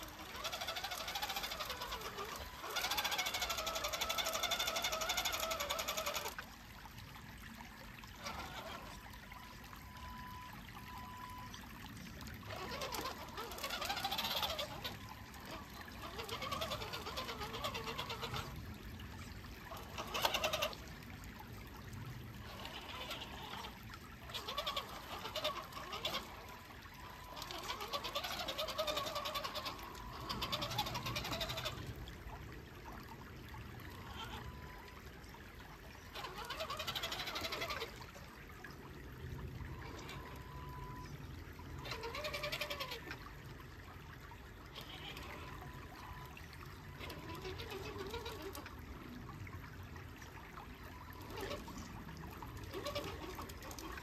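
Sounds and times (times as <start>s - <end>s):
creek water trickling: 0.0s - 54.0s.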